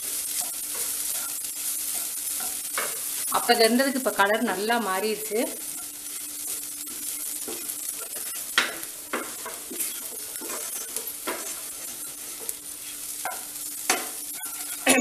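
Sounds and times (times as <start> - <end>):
spatula scraping frying pan: 0.0 - 15.0
steady sizzle: 0.0 - 15.0.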